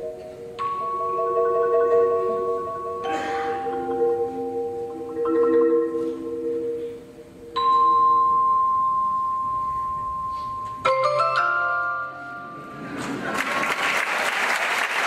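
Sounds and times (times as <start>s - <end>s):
marimbas playing: 0.0s - 13.0s.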